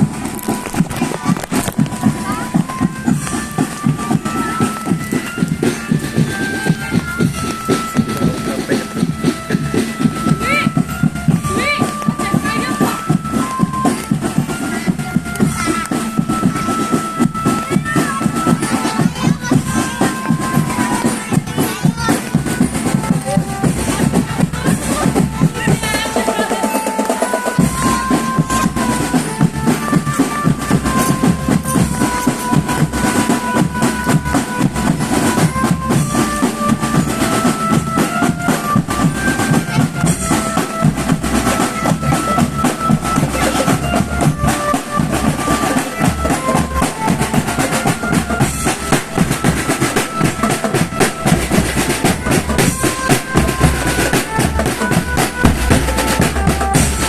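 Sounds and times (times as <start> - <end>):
marching band playing: 0.0 - 57.0
snare and bass drums: 0.0 - 57.0.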